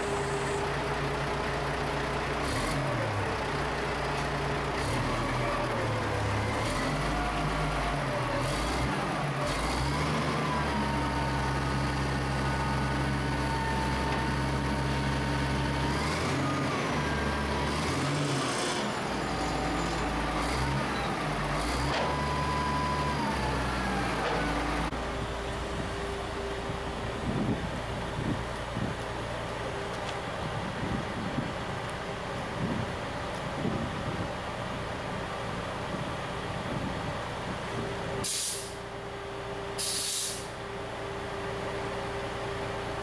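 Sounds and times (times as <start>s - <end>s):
diesel engines revving: 0.0s - 43.0s.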